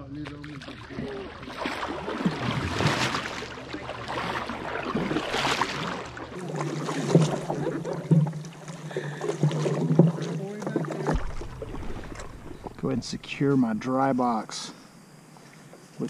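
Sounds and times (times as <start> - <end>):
paddles splashing through water: 0.0 - 13.8
voices: 0.0 - 15.0.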